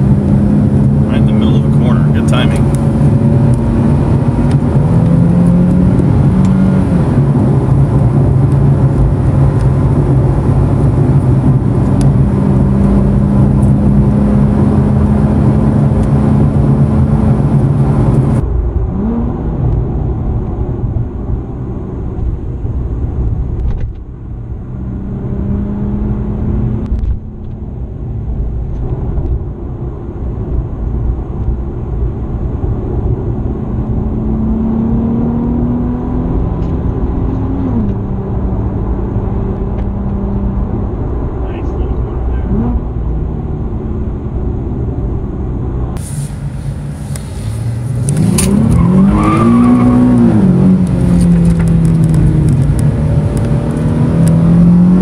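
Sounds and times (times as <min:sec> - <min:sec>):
car engine drone: 0:00.0 - 0:55.0
road noise: 0:00.0 - 0:55.0.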